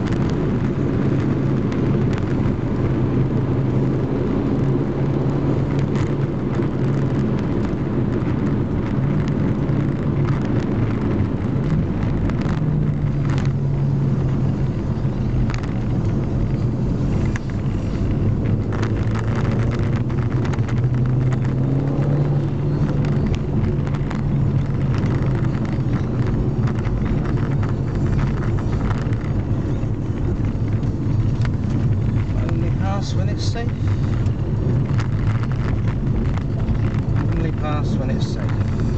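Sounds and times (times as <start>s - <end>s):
car engine revving: 0.0s - 38.9s
road noise inside car: 0.0s - 38.9s.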